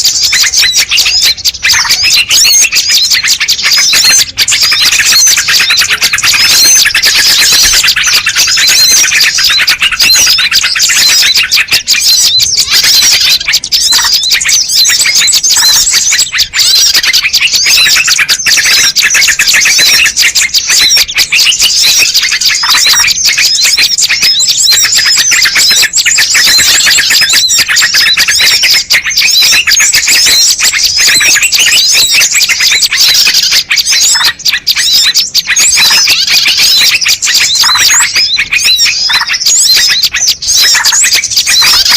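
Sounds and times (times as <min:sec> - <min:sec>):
many small birds twittering: 0:00.0 - 0:41.9.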